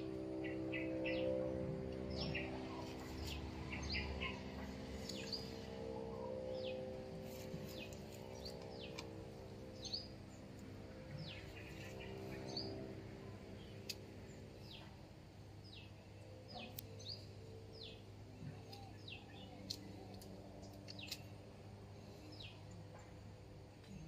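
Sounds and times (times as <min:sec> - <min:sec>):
birds chirping: 0:00.0 - 0:21.4
steady low hum: 0:00.0 - 0:24.0.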